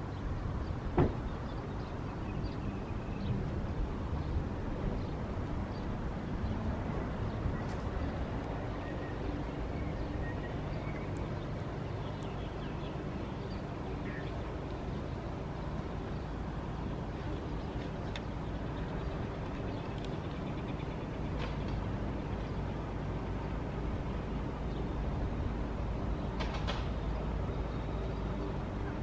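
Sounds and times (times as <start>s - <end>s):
distant diesel train rumble: 0.0s - 29.0s.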